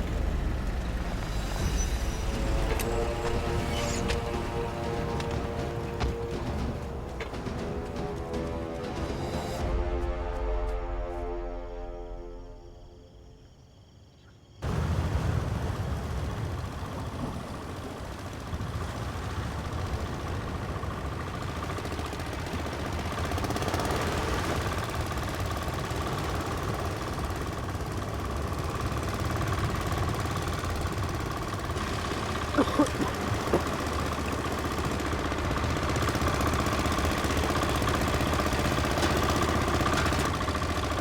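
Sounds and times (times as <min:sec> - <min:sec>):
boat engine droning: 0:00.0 - 0:13.6, 0:14.6 - 0:41.0.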